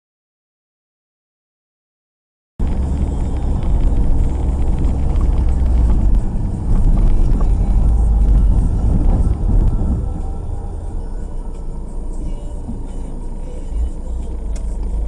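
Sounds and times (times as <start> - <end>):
car driving rumble from cabin: 2.6 - 15.0.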